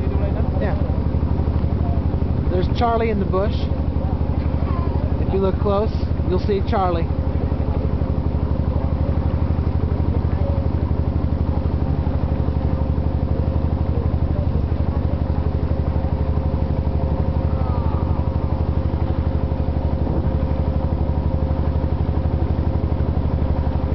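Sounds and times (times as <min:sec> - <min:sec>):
boat engine puttering: 0:00.0 - 0:23.9.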